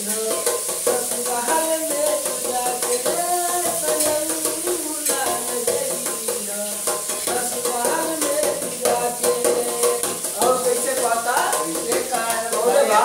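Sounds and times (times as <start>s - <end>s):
man singing in high voice: 0.0s - 13.0s.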